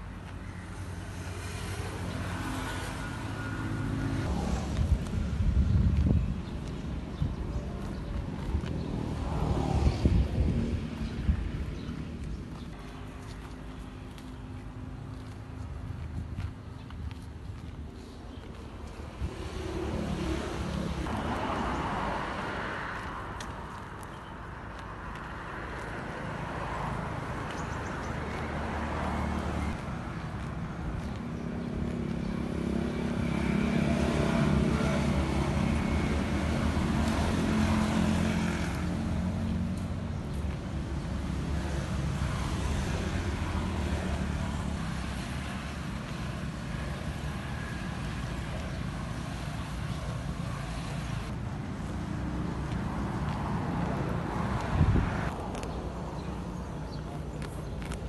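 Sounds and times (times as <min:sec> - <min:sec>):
road traffic rumble: 0:00.0 - 0:58.0
vehicle passing by: 0:01.1 - 0:06.4, 0:07.6 - 0:12.8, 0:18.6 - 0:23.5, 0:25.0 - 0:58.0.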